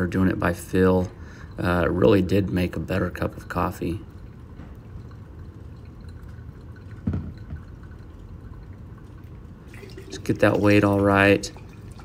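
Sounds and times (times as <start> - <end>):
coffee dripping trickle: 0.0 - 12.0
low steady hum: 0.0 - 12.0.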